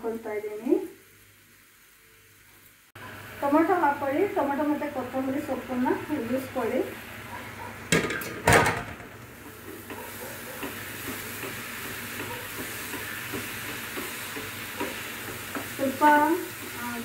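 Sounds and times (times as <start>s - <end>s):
sauce sizzling in a frying pan: 0.0s - 7.9s, 9.2s - 17.0s.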